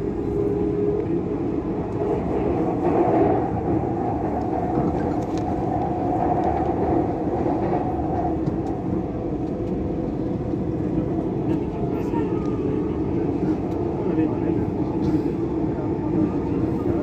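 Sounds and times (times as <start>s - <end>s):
train rumble and hiss: 0.0s - 17.0s.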